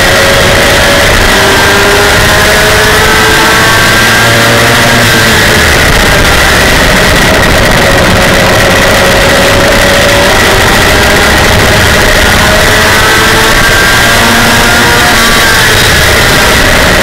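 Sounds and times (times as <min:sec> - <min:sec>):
race truck engine running: 0:00.0 - 0:17.0.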